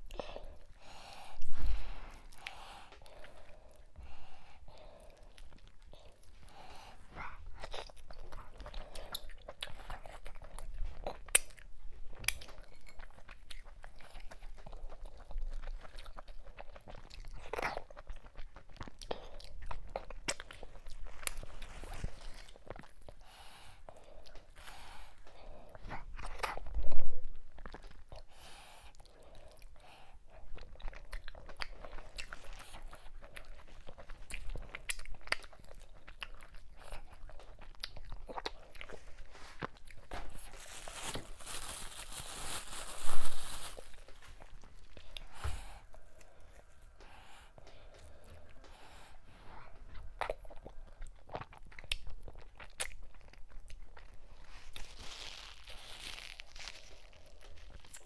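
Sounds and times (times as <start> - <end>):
wet sticky chewing: 2.3 - 42.1, 43.7 - 58.0.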